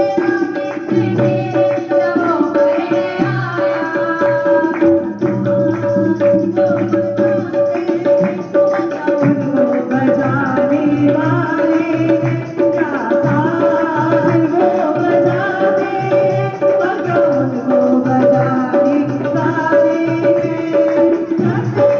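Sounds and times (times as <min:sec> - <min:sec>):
percussion rhythm: 0:00.0 - 0:21.9.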